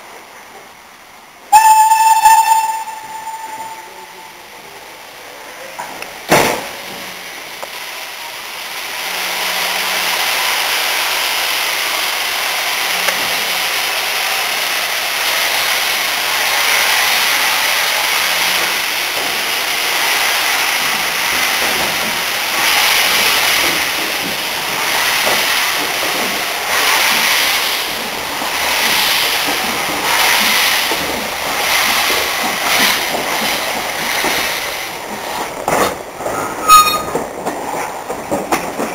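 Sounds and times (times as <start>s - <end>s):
steam locomotive hissing: 1.5s - 38.9s.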